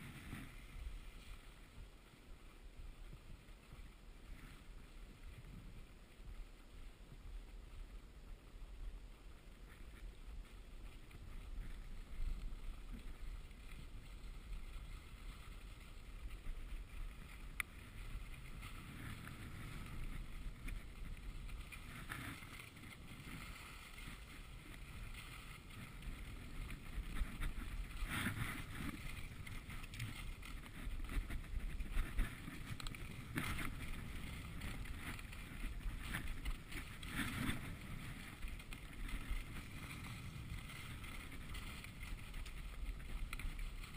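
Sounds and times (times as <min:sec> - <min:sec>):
ski edges scraping snow: 0:00.0 - 0:02.7, 0:09.4 - 0:43.9
skis sliding over snow: 0:00.0 - 0:43.9.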